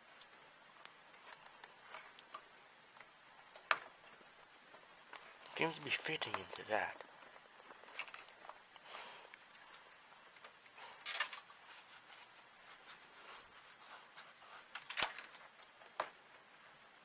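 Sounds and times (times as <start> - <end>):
rustling of cables: 0.1 - 16.3.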